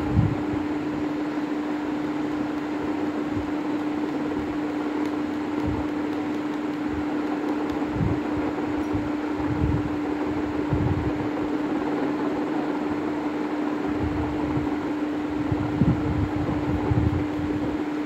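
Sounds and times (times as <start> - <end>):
steady motor hum: 0.0 - 18.0.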